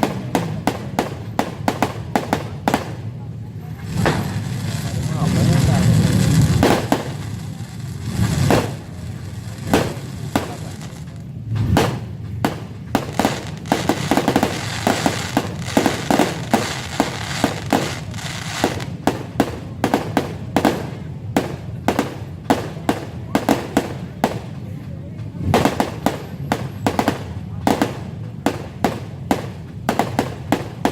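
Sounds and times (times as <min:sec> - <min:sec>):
fireworks bangs and cracks: 0:00.0 - 0:30.9.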